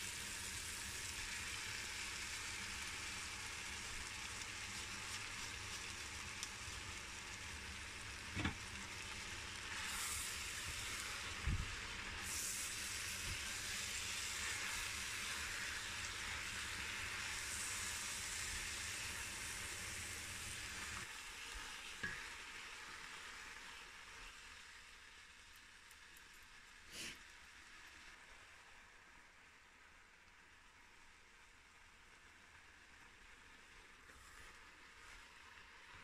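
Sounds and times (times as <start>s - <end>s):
meat sizzling in a pot: 0.0s - 36.0s.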